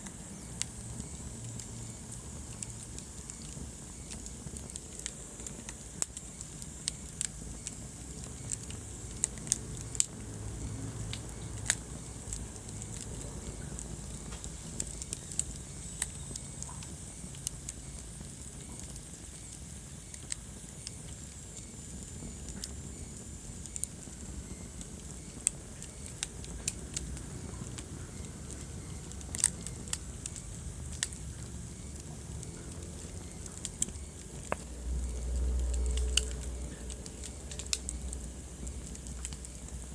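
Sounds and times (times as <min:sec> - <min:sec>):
fire crackling and popping: 0:00.0 - 0:39.9
wood fire rumble and hiss: 0:00.0 - 0:39.9.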